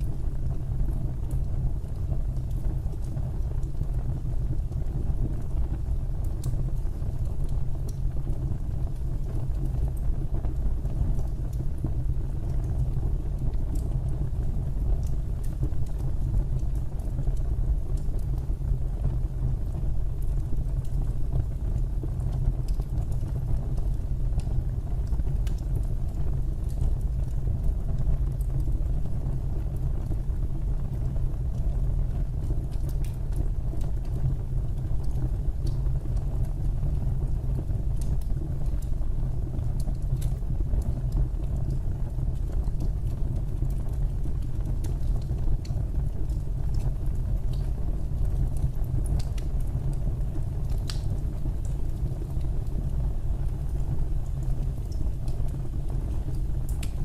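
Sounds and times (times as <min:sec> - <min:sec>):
fire crackles and pops: 0:00.0 - 0:57.0
wood fire rumbling: 0:00.0 - 0:57.0.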